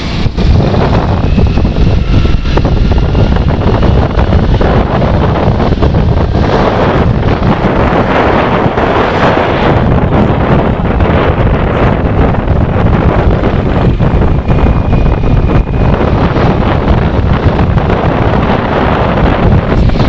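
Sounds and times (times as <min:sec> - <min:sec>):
moving vehicle rumble: 0:00.0 - 0:20.0
wind buffeting microphone: 0:00.0 - 0:20.0.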